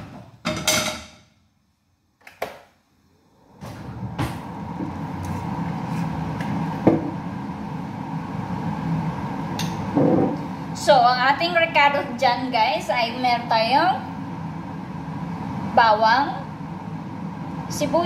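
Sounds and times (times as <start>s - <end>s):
kitchen fan humming: 0.0s - 1.2s, 2.2s - 18.0s
faint fan whine: 0.0s - 18.0s.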